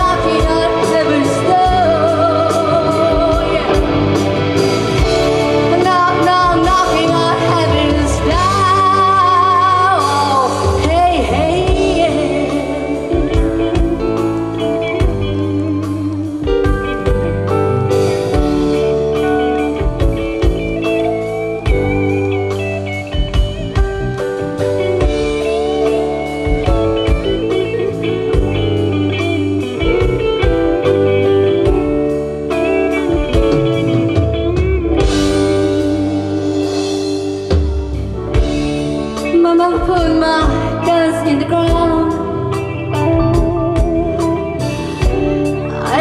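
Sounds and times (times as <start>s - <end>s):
bass and drums: 0.0s - 46.0s
electric guitar lead: 0.0s - 46.0s.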